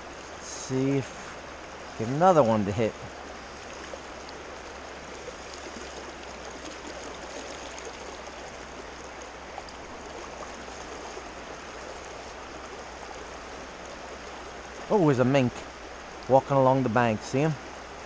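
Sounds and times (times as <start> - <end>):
creek water rushing over rocks: 0.0 - 18.0.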